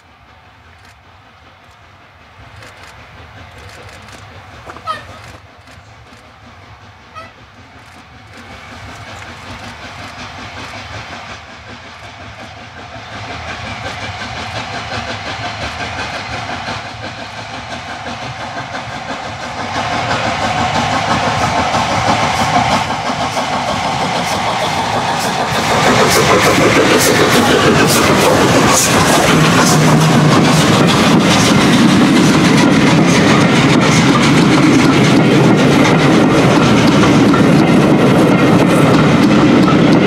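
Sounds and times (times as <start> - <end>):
steam locomotive exhaust beating: 0.0 - 40.0.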